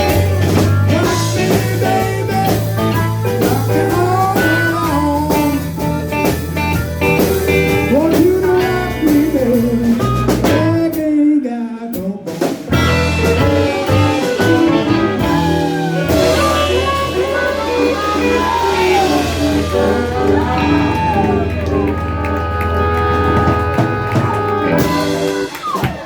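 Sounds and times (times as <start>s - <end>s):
person singing: 0.0s - 6.0s, 7.5s - 25.2s
electric guitar bending notes: 0.0s - 10.8s, 12.7s - 26.0s
drum kit: 0.0s - 11.2s, 11.9s - 26.0s
bass guitar: 0.0s - 11.3s, 11.9s - 26.0s.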